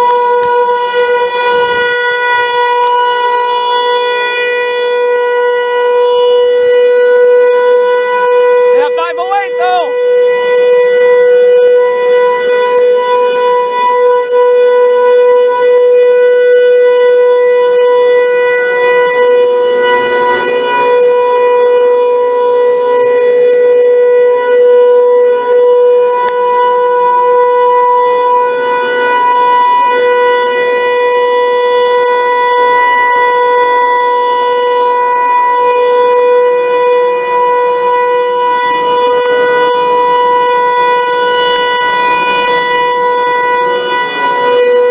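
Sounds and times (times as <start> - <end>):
warning siren steady tone: 0.0 - 44.9.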